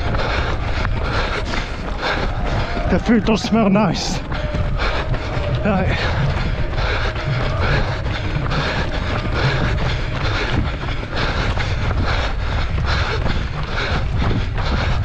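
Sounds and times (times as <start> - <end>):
running footsteps: 0.0 - 15.0
wind buffeting microphone: 0.0 - 15.0.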